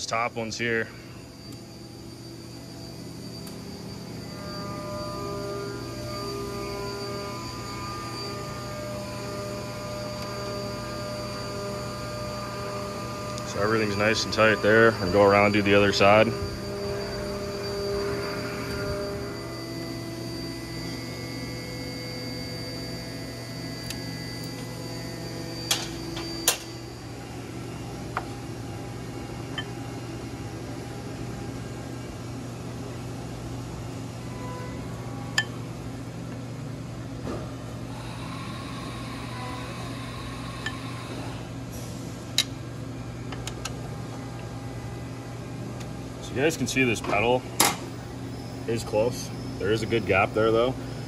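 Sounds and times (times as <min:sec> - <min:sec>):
low mechanical workshop hum: 0:00.0 - 0:51.0.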